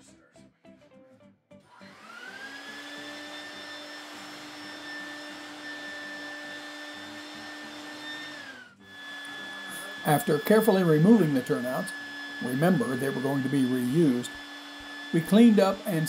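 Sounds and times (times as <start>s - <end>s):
vacuum cleaner motor whining: 1.7s - 16.0s.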